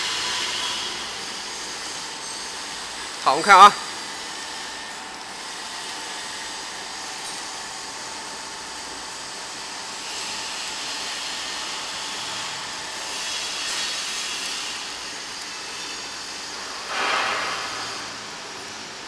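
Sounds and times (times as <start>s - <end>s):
rewinding machine running: 0.0s - 19.0s.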